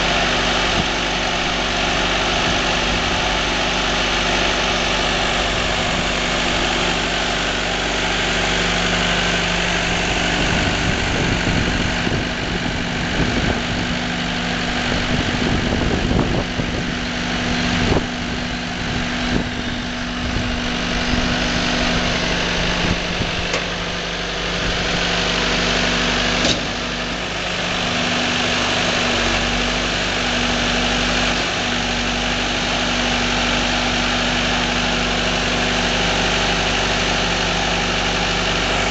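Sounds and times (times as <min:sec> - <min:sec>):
firewood processor engine running: 0:00.0 - 0:38.9.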